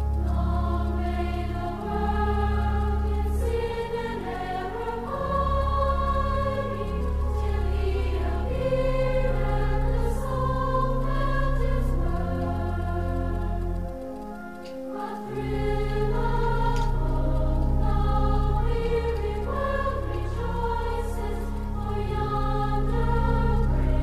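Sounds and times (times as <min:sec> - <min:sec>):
choir singing slow piece: 0:00.0 - 0:24.0
sustained bass notes: 0:00.0 - 0:24.0.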